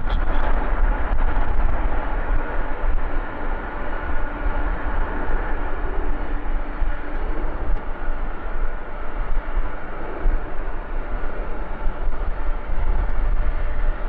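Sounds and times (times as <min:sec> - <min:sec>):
faint engine whine: 0:00.0 - 0:14.0
jet engines rumbling: 0:00.0 - 0:14.0.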